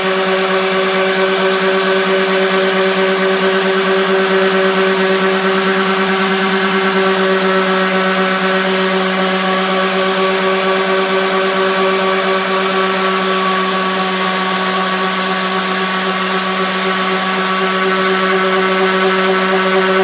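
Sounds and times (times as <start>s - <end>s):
orbital sander motor hum: 0.0s - 20.0s.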